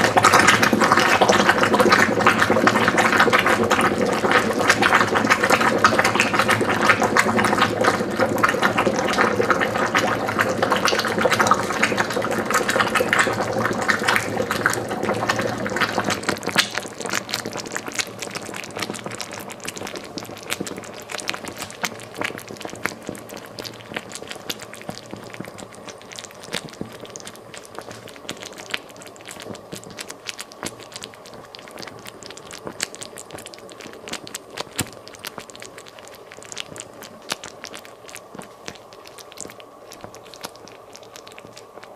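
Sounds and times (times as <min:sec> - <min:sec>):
honey sizzling on hot metal: 0:00.0 - 0:41.9.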